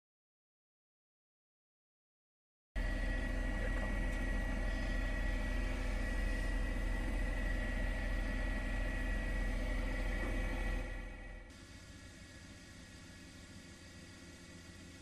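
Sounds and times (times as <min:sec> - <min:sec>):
helicopter engine and rotor: 0:02.8 - 0:15.0.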